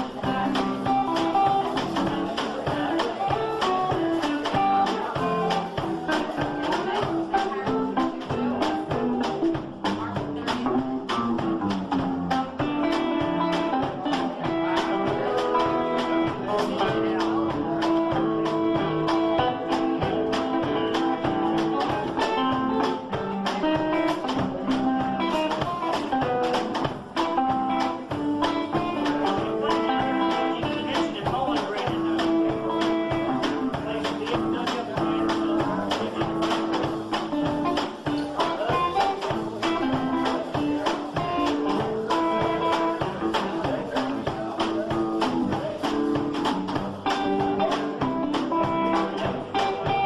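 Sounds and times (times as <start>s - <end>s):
electric guitar playing: 0.0s - 50.0s.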